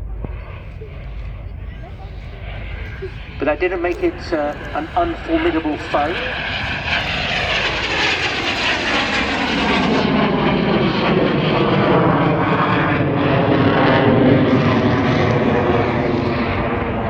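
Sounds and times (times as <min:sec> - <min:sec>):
jet flying past: 0:00.0 - 0:17.0.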